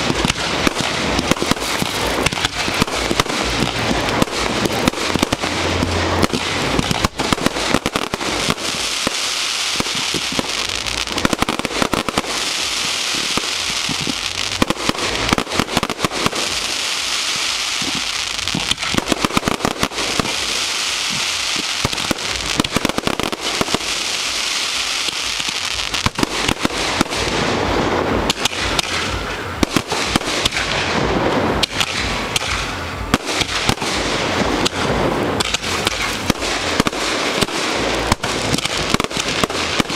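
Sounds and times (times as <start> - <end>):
firework crackling hiss: 0.0 - 39.9
fireworks bangs and pops: 0.0 - 39.9.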